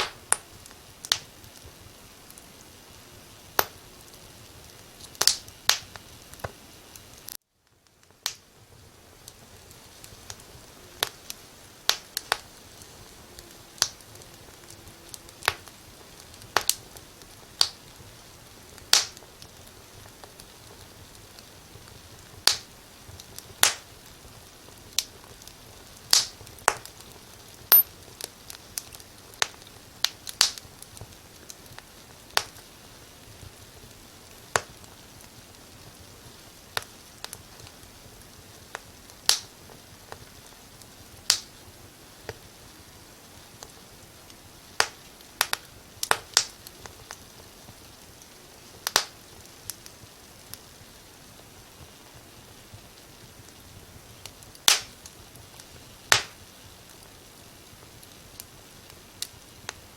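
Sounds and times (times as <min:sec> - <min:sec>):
steady hiss: 0:00.0 - 0:59.9
wood fire crackling: 0:00.0 - 0:59.9.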